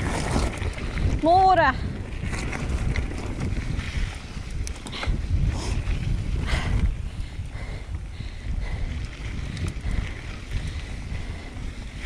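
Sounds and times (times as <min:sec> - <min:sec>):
mountain bike rolling on trail: 0:00.0 - 0:12.0
wind rumbling on microphone: 0:00.0 - 0:12.0.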